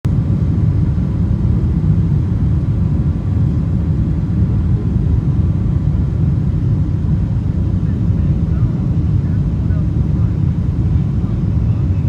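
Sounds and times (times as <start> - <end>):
faint steady hum: 0.1 - 12.0
jet cabin rumble: 0.1 - 12.0.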